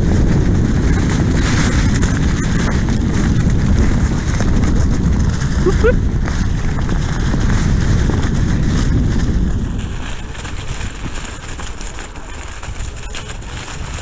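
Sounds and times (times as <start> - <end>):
tyre rolling over leaves and dirt: 0.0 - 14.0
wind buffeting microphone: 0.0 - 14.0.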